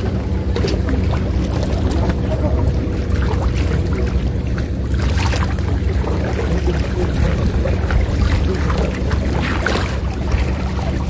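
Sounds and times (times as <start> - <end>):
low rumble: 0.0 - 11.0
small waves splashing against rocks: 0.0 - 11.0.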